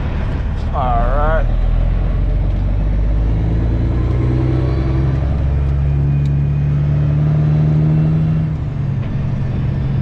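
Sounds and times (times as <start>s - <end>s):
truck diesel engine pulling: 0.0s - 10.0s.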